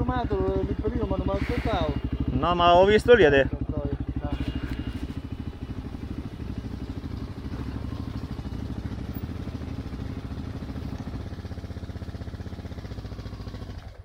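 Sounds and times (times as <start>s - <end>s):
motorcycle engine thumping: 0.0s - 14.0s.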